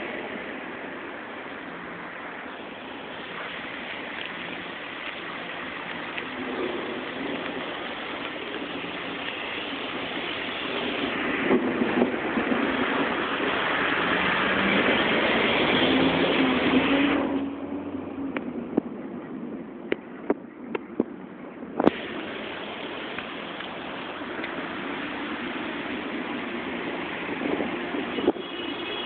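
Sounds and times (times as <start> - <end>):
heavy rain hissing: 0.0 - 18.2, 21.8 - 29.0
vehicles driving through water: 0.0 - 29.0.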